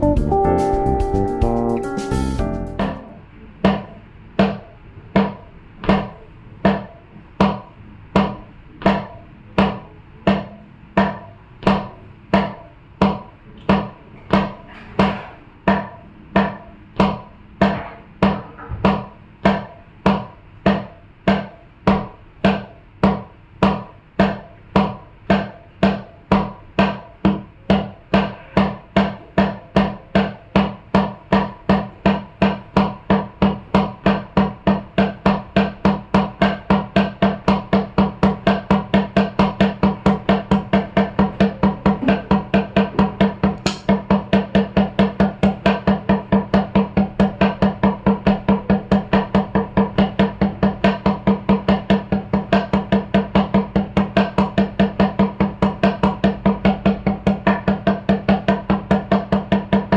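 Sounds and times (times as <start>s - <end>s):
percussive strikes with ringing: 0.0s - 59.9s.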